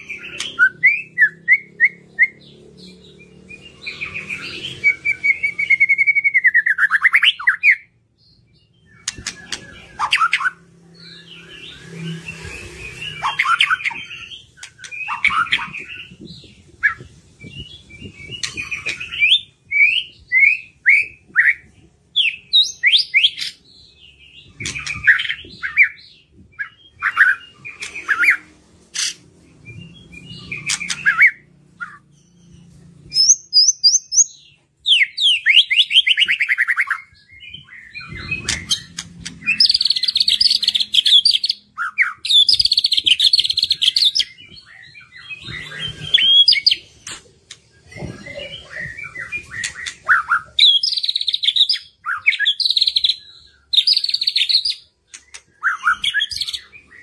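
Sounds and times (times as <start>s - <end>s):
bird singing whistles and trills: 0.0s - 57.0s.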